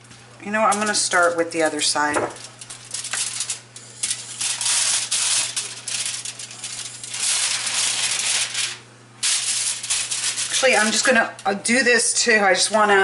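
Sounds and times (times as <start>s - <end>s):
aluminium foil crinkling: 0.7s - 11.6s.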